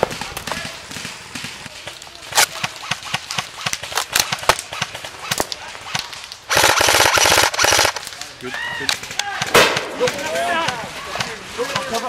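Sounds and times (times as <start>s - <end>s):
airsoft rifle shots: 0.0s - 8.1s, 9.4s - 11.9s.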